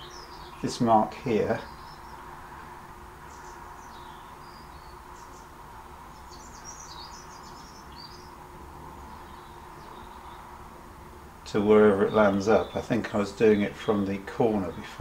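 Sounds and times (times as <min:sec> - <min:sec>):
low background hum: 0:00.0 - 0:15.0
small birds chirping: 0:00.0 - 0:15.0.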